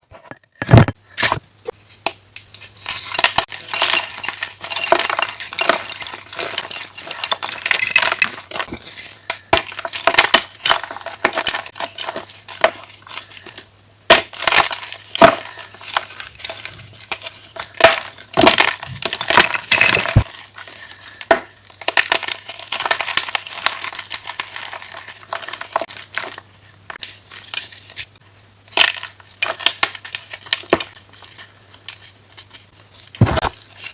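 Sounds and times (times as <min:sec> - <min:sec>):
chalk crunching and crackling: 0:01.2 - 0:33.9.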